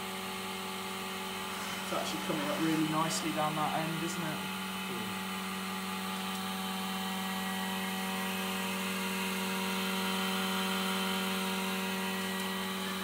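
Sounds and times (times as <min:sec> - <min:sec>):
vacuum pump humming and hissing: 0:00.0 - 0:13.0.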